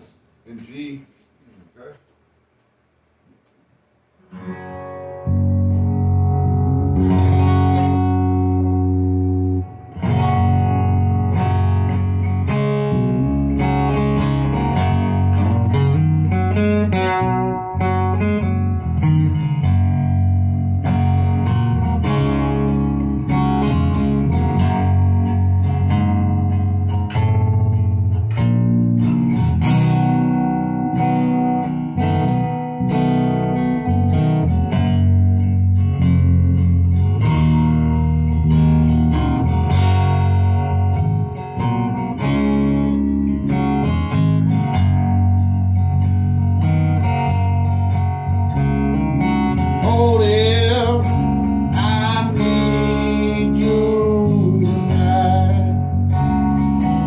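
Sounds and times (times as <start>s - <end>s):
strummed guitar: 4.2s - 57.0s
electric bass: 4.4s - 57.0s.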